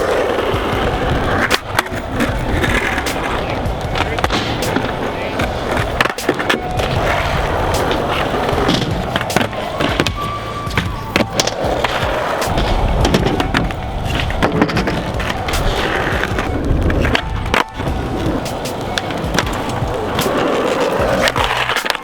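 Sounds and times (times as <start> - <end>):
background music: 0.0 - 22.0
skateboard clacks: 0.0 - 22.0
skateboard rolling on concrete: 0.0 - 22.0.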